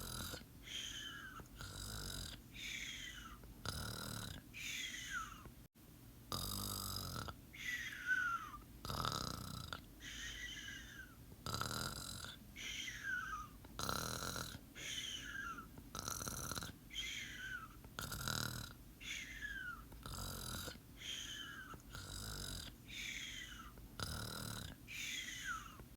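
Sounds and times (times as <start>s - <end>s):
person snoring: 0.0s - 5.4s, 6.3s - 25.8s.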